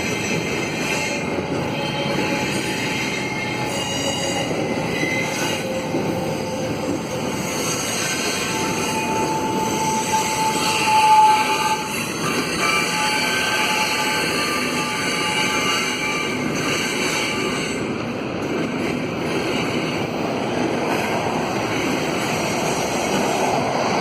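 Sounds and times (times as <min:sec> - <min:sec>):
freight train rumble: 0:00.0 - 0:24.0
train wheels squealing on rails: 0:00.0 - 0:24.0.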